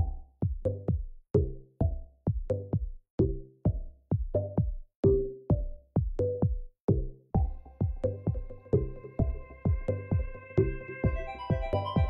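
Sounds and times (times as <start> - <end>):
electronic music with drum-machine beat: 0.0 - 12.0.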